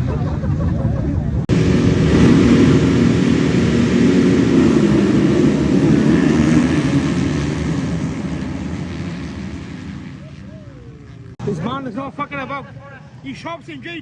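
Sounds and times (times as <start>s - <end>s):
motocross bike engines: 0.0s - 14.0s.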